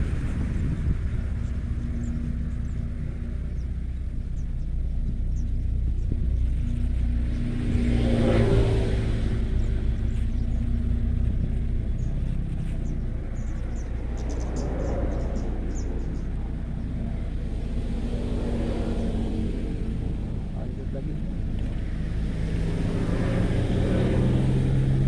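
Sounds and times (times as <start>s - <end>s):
motor vehicles passing: 0.0s - 25.0s.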